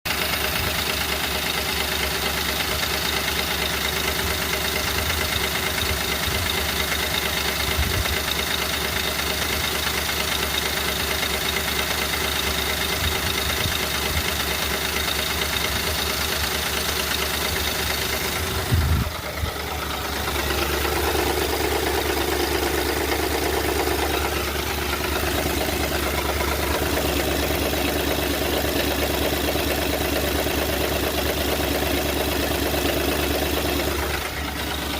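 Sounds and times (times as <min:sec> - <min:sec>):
car engine idling: 0:00.0 - 0:34.9
engine knocking tap: 0:00.1 - 0:34.9.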